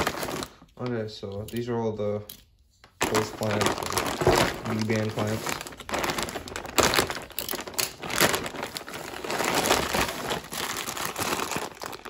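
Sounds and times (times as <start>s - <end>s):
plastic bag crinkling: 0.0s - 1.0s, 3.0s - 12.0s.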